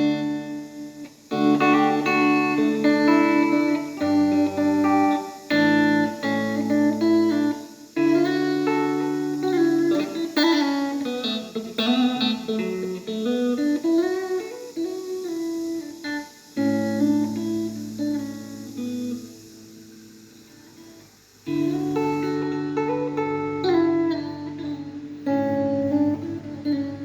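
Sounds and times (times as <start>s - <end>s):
clean electric guitar: 0.0s - 27.0s.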